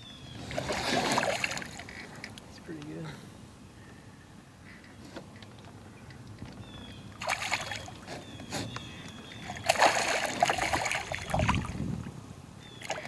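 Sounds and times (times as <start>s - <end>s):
water splashing beside boat: 0.3s - 3.0s, 5.0s - 13.0s.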